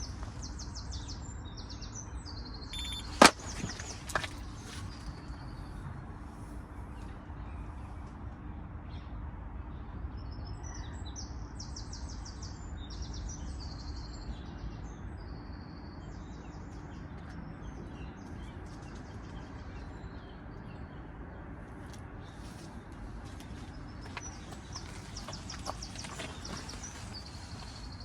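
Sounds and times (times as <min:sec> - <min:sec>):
songbirds trilling: 0:00.0 - 0:05.9, 0:10.6 - 0:28.0.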